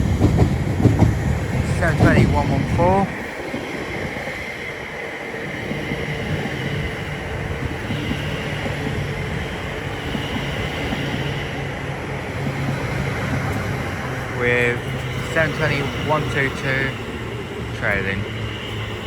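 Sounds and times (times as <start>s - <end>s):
train wheels and motors rumbling: 0.0s - 19.0s.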